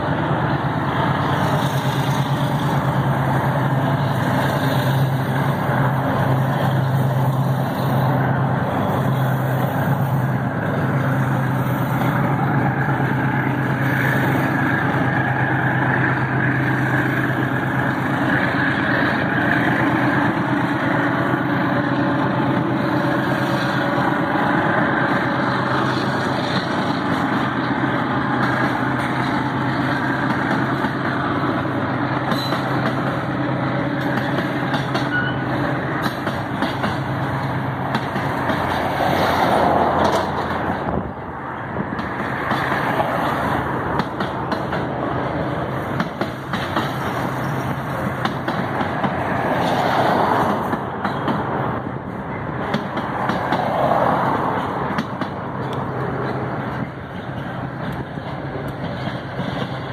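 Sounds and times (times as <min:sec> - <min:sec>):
road vehicle passing: 0:00.0 - 0:46.2, 0:47.1 - 0:59.9
freight train wheels on rail: 0:00.0 - 0:59.9.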